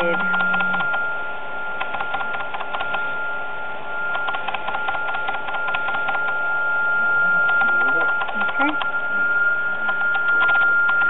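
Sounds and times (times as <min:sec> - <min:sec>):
stepper motor whine: 0:00.0 - 0:11.0.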